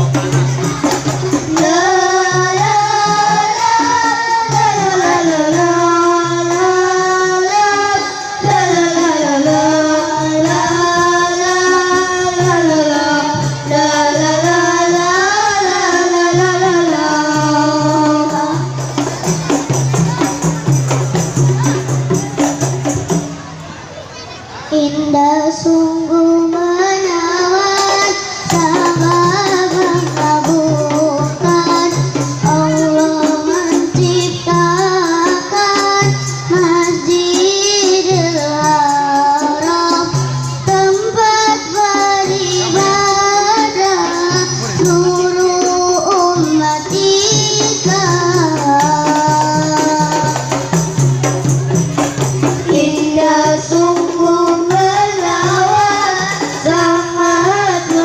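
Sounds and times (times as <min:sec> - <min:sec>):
frame drums rhythm: 0:00.0 - 0:24.2, 0:26.7 - 0:58.0
children singing through pa system: 0:00.0 - 0:58.0.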